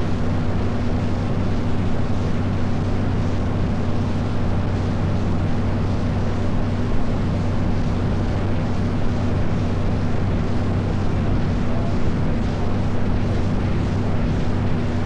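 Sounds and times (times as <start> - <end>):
boat engine drone: 0.0 - 15.0
rushing wind and water: 0.0 - 15.0.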